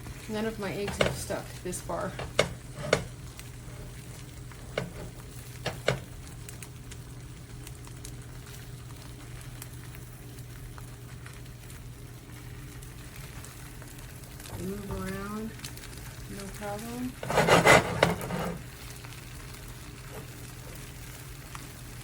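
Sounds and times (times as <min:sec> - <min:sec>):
eggs sizzling on a griddle: 0:00.0 - 0:22.0.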